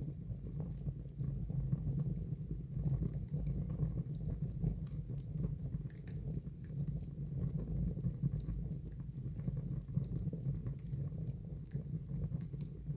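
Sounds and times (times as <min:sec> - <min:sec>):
fire crackling and popping: 0:00.0 - 0:12.9.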